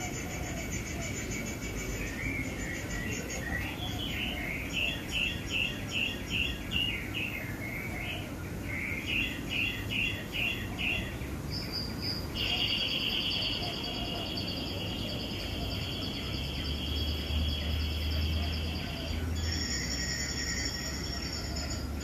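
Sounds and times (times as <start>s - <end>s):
bird trill: 0.0s - 22.0s
low background hiss: 0.0s - 22.0s
songbird chirping: 0.0s - 22.0s.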